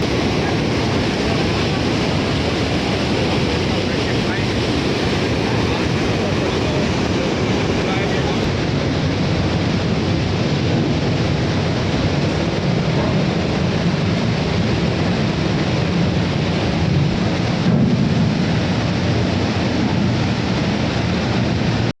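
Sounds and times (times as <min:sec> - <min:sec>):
water rushing out of dam: 0:00.0 - 0:21.9.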